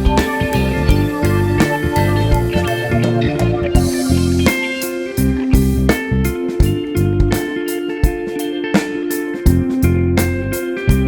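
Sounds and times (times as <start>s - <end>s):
guitar-led band music: 0.0s - 11.0s.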